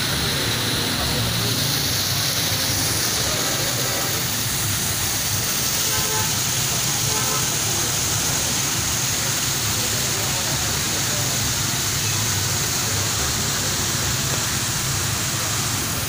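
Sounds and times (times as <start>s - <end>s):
waterfall splashing into pond: 0.0s - 16.0s.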